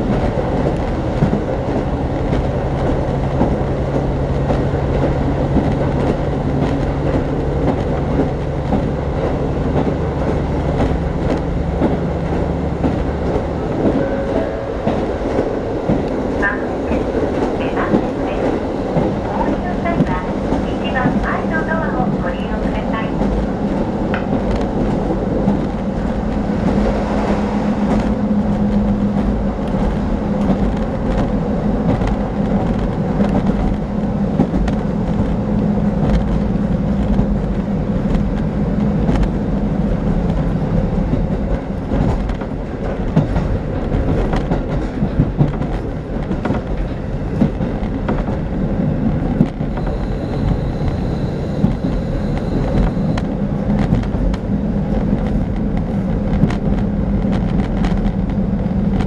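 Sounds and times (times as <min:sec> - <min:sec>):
diesel train engine drone: 0:00.0 - 0:59.0
wheels rumbling on rails: 0:00.0 - 0:59.0.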